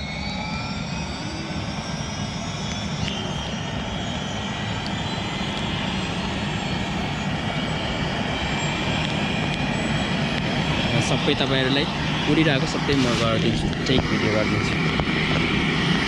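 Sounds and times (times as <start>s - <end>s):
helicopter engine whine starting up: 0.0s - 16.0s.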